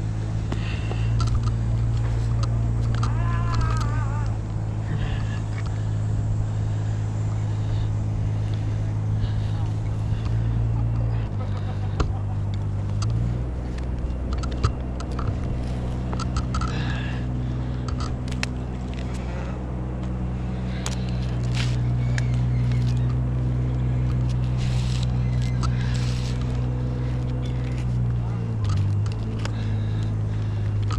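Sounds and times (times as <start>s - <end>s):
small engine idling: 0.0s - 30.9s.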